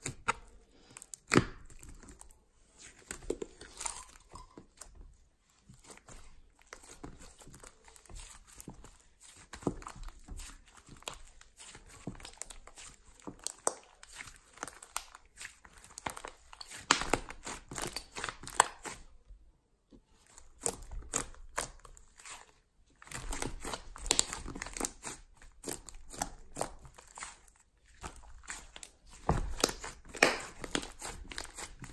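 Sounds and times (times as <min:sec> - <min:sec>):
slime crackling and popping: 0:00.0 - 0:04.8, 0:05.9 - 0:19.1, 0:23.0 - 0:31.9.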